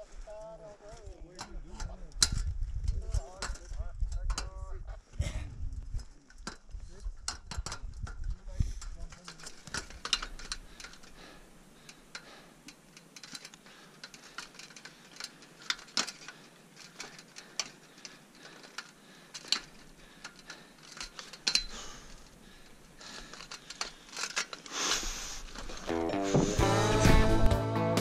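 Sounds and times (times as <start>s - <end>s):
carabiners clinking: 0.9s - 4.6s, 5.9s - 26.5s
crampons clicking on metal ladder: 1.3s - 4.5s, 5.9s - 26.5s.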